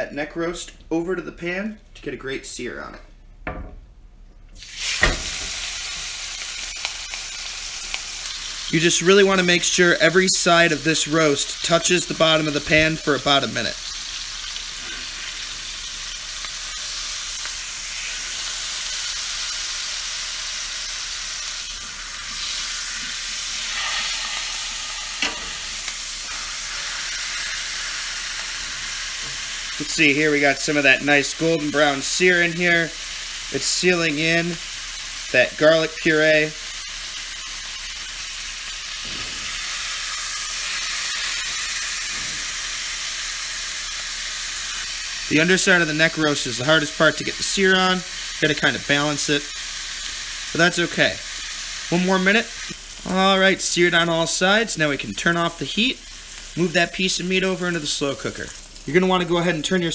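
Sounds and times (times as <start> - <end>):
meat sizzling in oil: 4.6 - 59.9.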